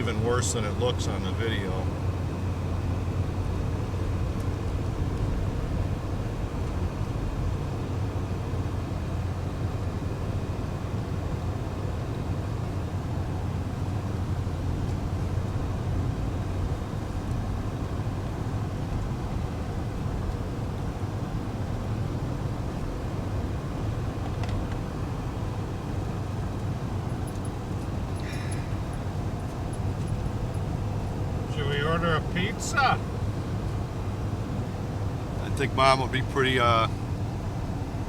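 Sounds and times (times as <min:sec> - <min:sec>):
road noise: 0:00.0 - 0:38.0
vehicle engine hum in cab: 0:00.0 - 0:38.0.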